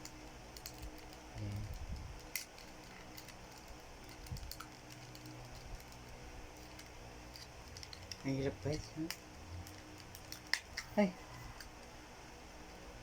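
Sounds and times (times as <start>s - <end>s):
plastic toy pieces clicking: 0.0s - 10.9s
faint steady hum: 0.0s - 13.0s.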